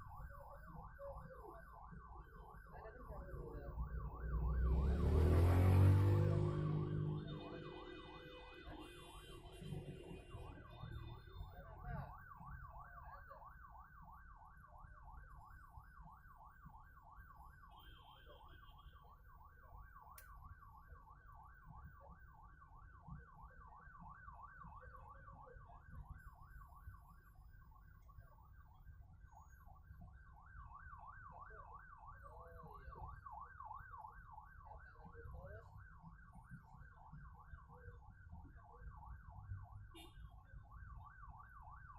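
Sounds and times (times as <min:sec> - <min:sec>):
distant siren yelping: 0:00.0 - 0:41.9
low rumble of traffic: 0:00.0 - 0:41.9.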